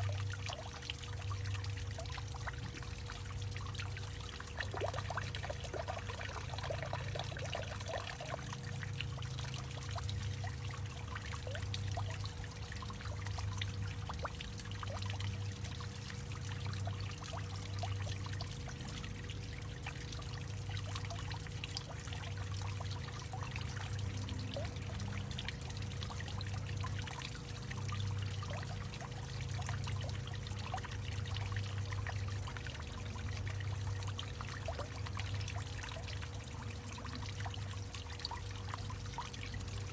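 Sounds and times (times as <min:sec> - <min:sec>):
water dripping: 0:00.0 - 0:39.9
water trickling and pouring: 0:00.0 - 0:39.9.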